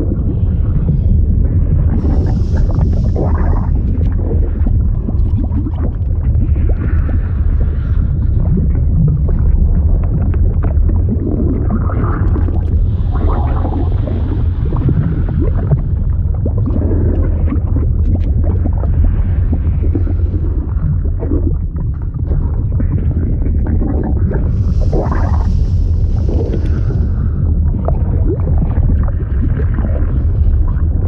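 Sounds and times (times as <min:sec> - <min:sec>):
deep rumble: 0:00.0 - 0:31.0
liquid gurgling and bubbling: 0:00.0 - 0:31.0.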